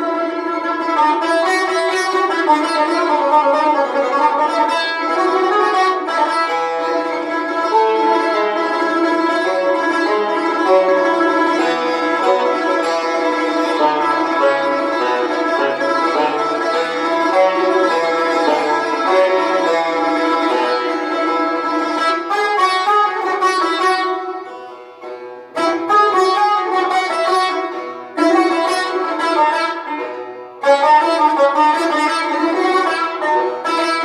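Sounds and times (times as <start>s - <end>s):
plucked string instrument melody: 0.0s - 34.0s.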